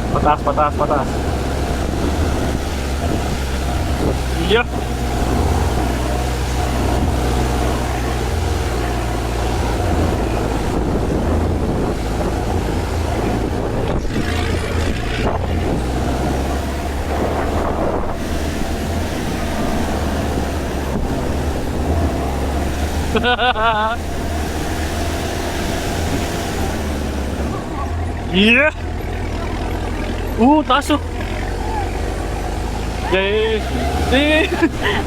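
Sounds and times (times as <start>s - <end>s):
low engine rumble: 0.0s - 35.0s
wind buffeting microphone: 0.0s - 35.0s.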